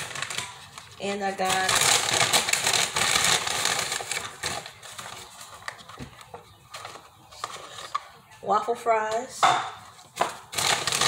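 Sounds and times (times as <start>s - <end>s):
paper bag rustling and crinkling: 0.0s - 8.2s, 9.9s - 11.0s.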